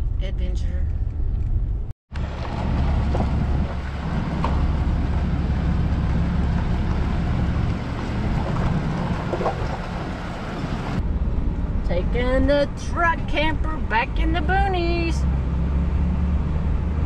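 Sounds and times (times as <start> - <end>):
wind noise: 0.0 - 14.2
truck engine and tyres rumbling: 0.0 - 17.0.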